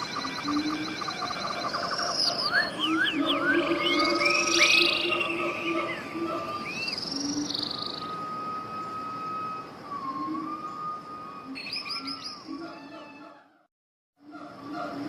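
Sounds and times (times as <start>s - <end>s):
birds singing and chirping: 0.0s - 13.6s.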